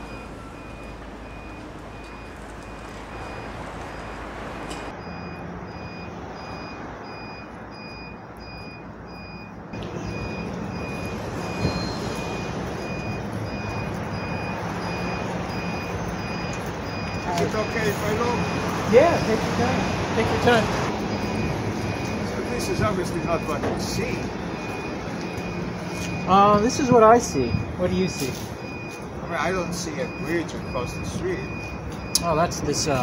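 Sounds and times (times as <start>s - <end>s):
reversing alarm beeping: 0.0s - 33.0s
street traffic rumble: 0.0s - 33.0s.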